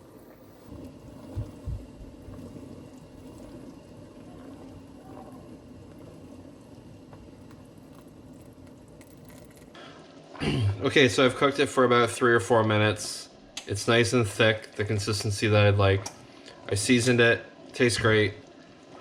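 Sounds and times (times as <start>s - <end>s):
gravy bubbling in a pot: 0.0s - 19.0s.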